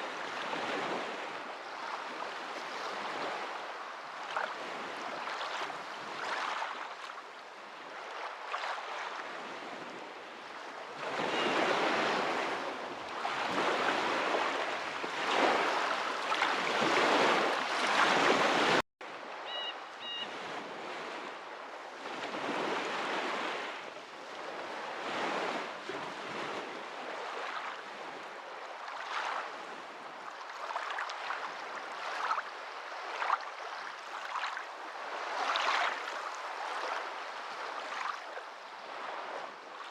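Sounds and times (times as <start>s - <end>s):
water washing in waves: 0.0s - 39.9s.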